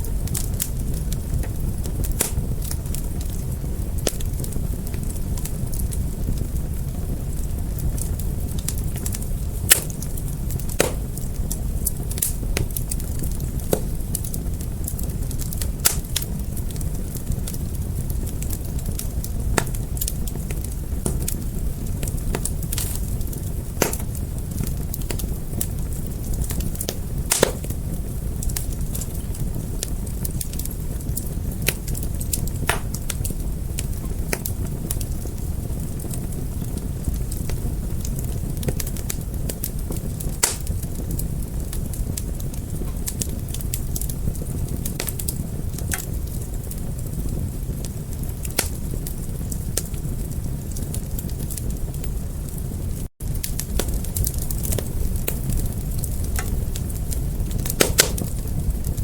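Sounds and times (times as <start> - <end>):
burning wood crackling: 0.0 - 59.0
fire flames roaring: 0.0 - 59.0.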